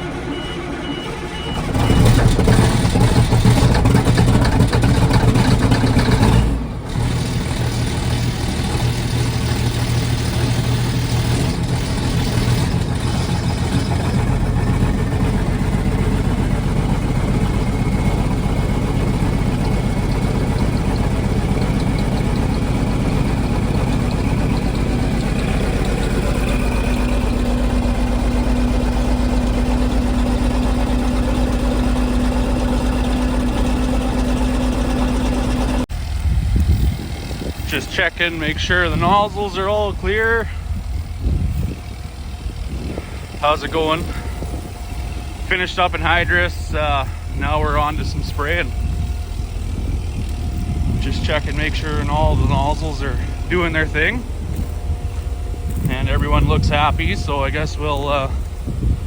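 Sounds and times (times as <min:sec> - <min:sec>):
diesel engine idling: 0:00.0 - 0:59.0
diesel tractor engine starting: 0:00.0 - 0:59.0.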